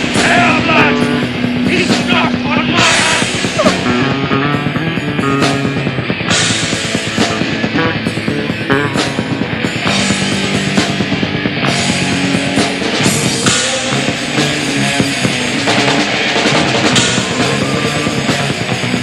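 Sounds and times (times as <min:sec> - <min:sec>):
distorted electric guitars: 0:00.0 - 0:19.0
drum kit: 0:00.0 - 0:19.0.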